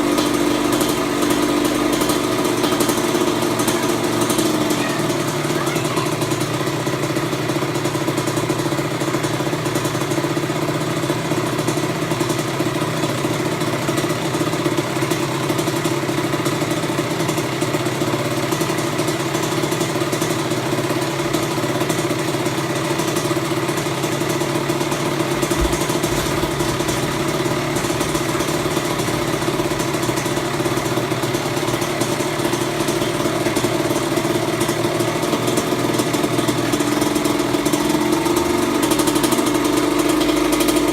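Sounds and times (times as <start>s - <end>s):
two-stroke engine idling: 0.0s - 40.9s.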